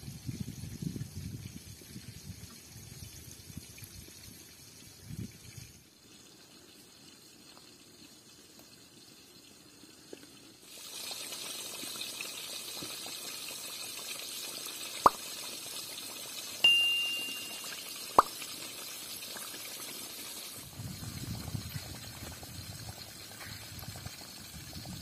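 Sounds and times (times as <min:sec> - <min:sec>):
chicken frying in hot oil: 0:00.0 - 0:25.0.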